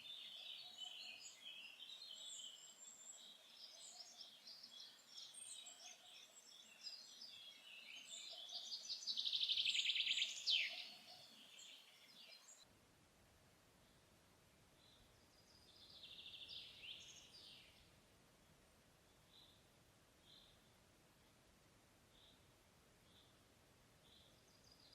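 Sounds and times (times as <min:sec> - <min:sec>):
songbirds singing: 0:00.0 - 0:12.7, 0:13.8 - 0:21.4, 0:22.1 - 0:24.9.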